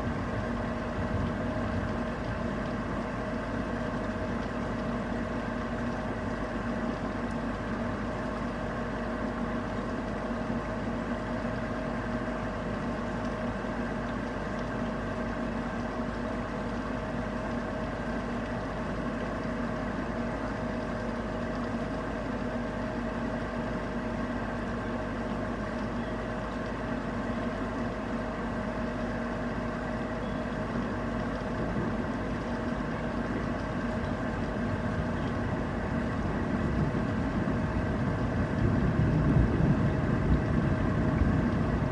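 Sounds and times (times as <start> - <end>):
steady mechanical hum: 0.0 - 41.9.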